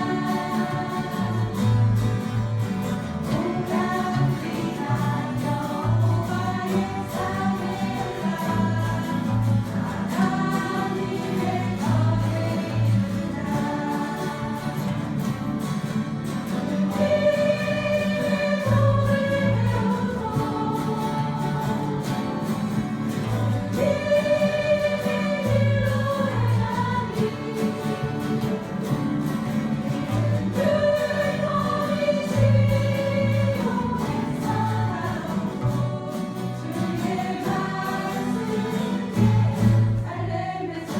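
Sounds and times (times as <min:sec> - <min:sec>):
group singing worship song: 0:00.0 - 0:40.9
guitar ensemble: 0:00.0 - 0:40.9.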